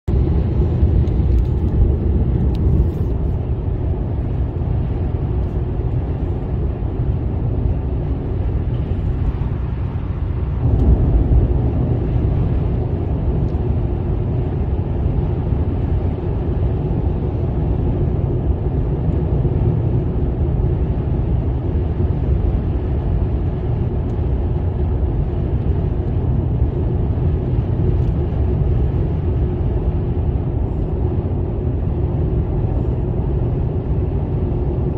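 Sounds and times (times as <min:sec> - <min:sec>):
vehicle road and engine drone: 0:00.0 - 0:34.9.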